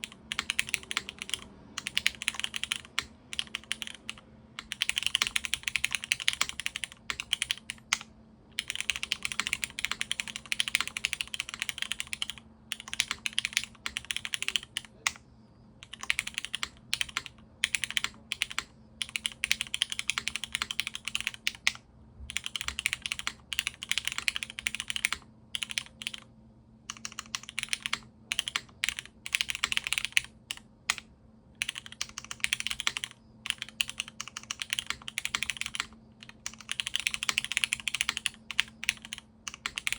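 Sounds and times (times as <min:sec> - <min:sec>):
typing on mechanical keyboard: 0:00.0 - 0:15.2, 0:15.8 - 0:26.3, 0:26.9 - 0:31.0, 0:31.6 - 0:39.9.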